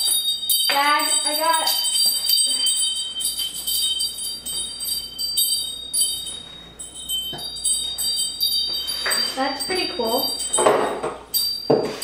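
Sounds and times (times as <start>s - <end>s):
metal wind chime jingling: 0.0s - 12.0s.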